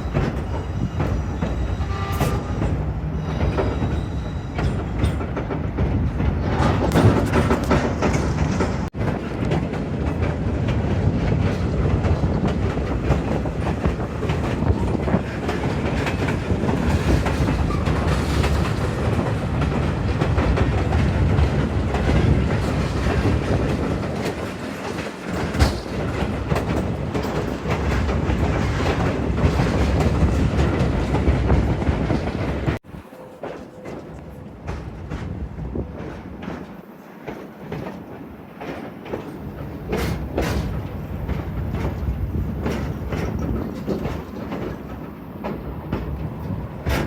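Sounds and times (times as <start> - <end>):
train rumbling on track: 0.0 - 47.0
train wheels clicking: 0.0 - 47.0.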